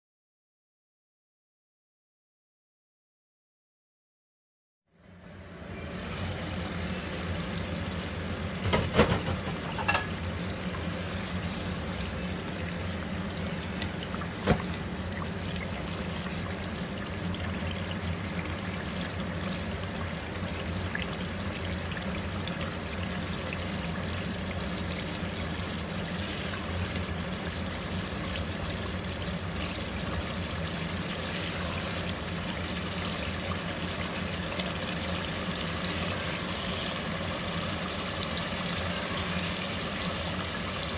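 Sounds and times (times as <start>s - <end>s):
sauce sizzling and bubbling in pot: 5.0s - 40.9s.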